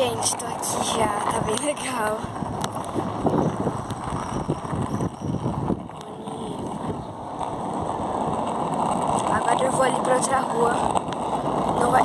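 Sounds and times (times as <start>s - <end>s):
skateboard wheels rolling on pavement: 0.0s - 12.0s
wind buffeting microphone: 0.0s - 12.0s.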